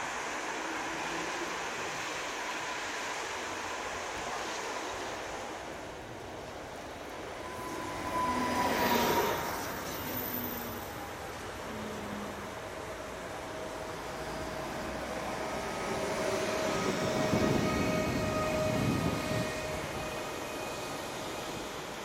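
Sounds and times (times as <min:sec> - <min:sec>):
electric train passing: 0:00.0 - 0:22.0
high whine of train cars: 0:00.0 - 0:22.0.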